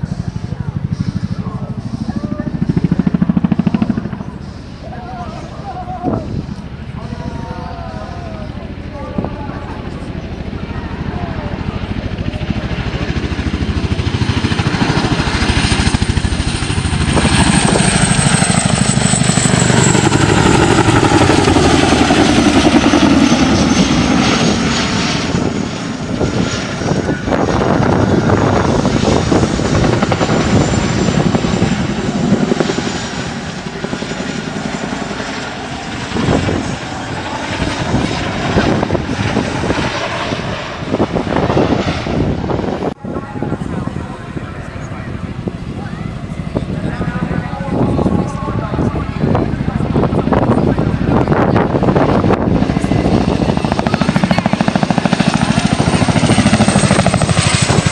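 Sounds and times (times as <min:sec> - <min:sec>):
aircraft engine whine flying past: 0:00.0 - 0:57.9.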